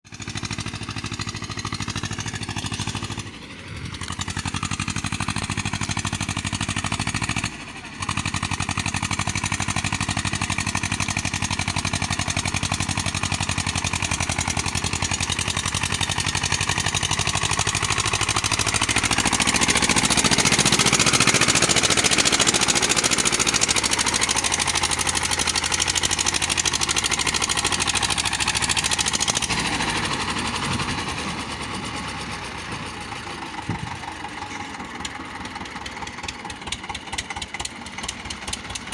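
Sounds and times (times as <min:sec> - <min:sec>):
tractor engine running: 0:00.1 - 0:38.9.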